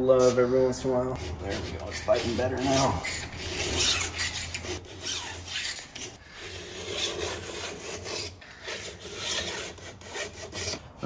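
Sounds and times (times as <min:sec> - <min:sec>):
file scraping steel: 0:01.2 - 0:11.0.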